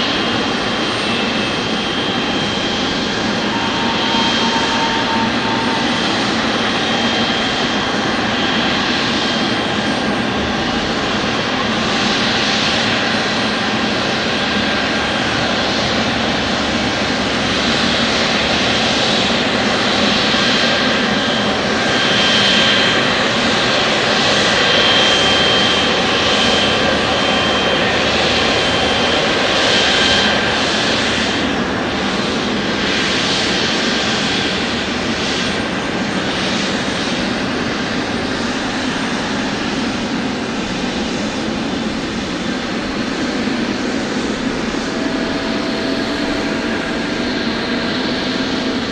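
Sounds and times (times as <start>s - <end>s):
airliner engines roaring: 0.0s - 48.9s
high engine whine: 0.0s - 48.9s.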